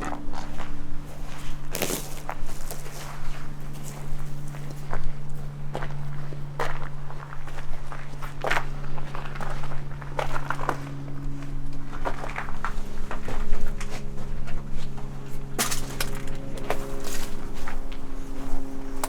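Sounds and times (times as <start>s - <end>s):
footsteps crunching over debris: 0.0s - 19.0s.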